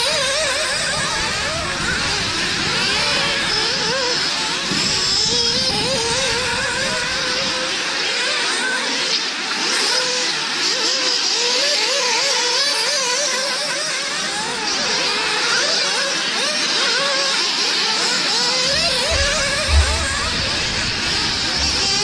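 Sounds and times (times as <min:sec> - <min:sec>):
small engines of racing rc cars: 0:00.0 - 0:22.0.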